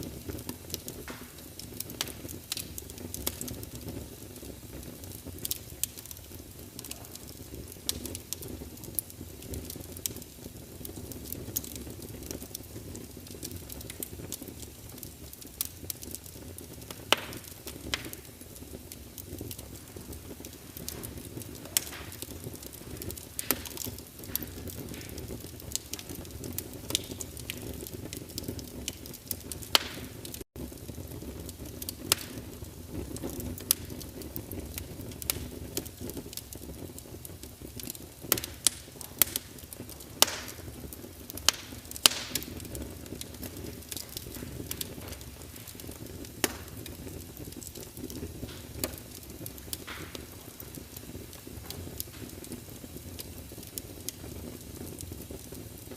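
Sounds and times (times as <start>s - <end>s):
burning logs crackling and popping: 0.0s - 55.9s
low rumble of flames: 0.0s - 55.9s.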